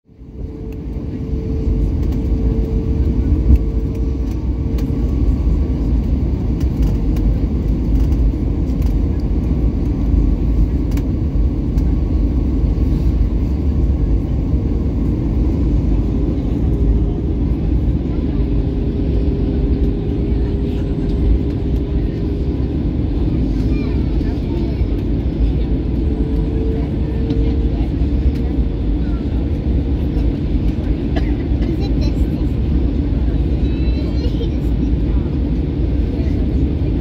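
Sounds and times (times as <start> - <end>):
engine and airflow rumble: 0.0 - 37.0.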